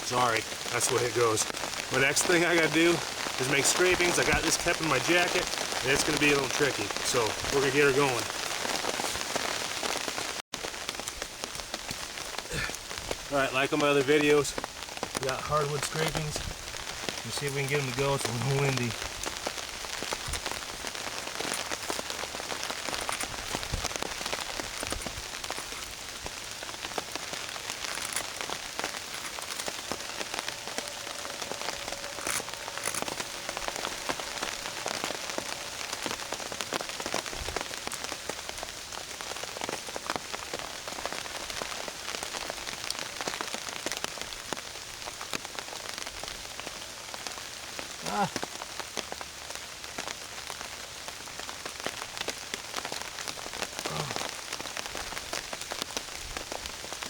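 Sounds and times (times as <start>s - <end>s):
rain on a tarp: 0.0s - 57.0s.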